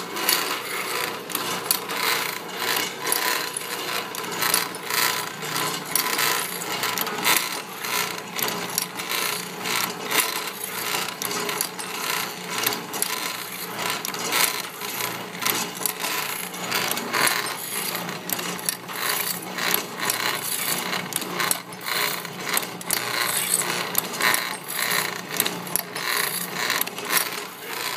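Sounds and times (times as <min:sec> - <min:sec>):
motor hum: 0:00.0 - 0:27.9.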